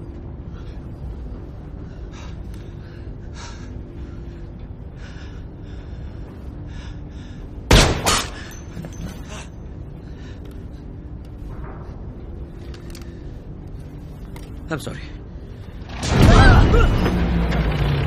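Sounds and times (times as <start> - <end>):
plane cabin drone: 0.0 - 18.0.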